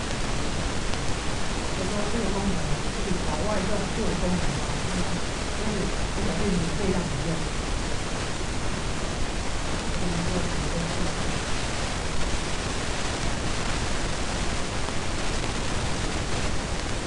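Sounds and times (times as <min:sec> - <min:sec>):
loud steady hiss: 0:00.0 - 0:17.0.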